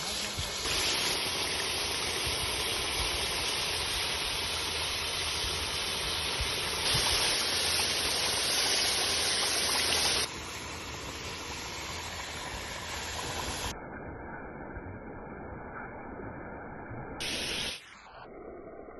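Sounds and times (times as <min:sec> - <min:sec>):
meat boiling and bubbling: 0:00.0 - 0:16.2.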